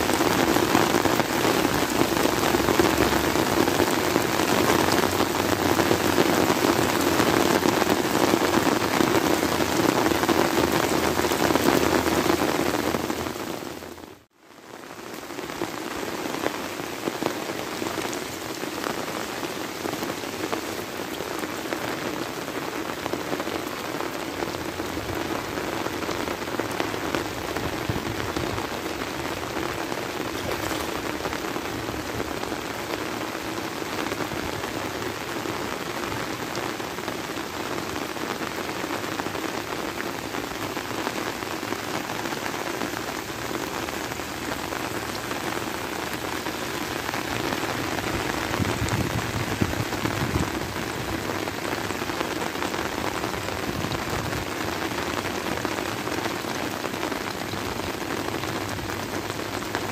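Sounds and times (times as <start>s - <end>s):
heavy rain falling on water: 0.0s - 59.9s.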